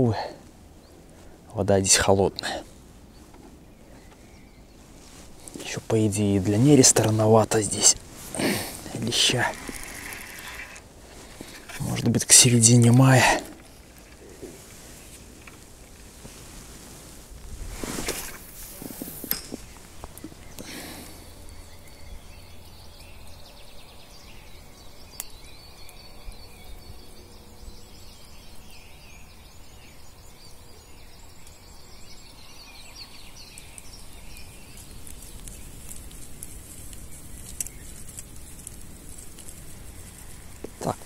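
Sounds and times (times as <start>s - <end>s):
birds singing and chirping: 0.0s - 15.6s, 18.2s - 41.0s.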